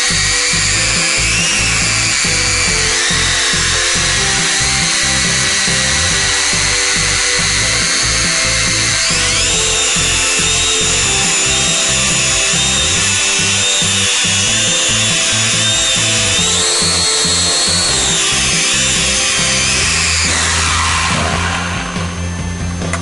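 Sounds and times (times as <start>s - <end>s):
background music: 0.0s - 23.0s
toy drone motors whining: 0.0s - 23.0s.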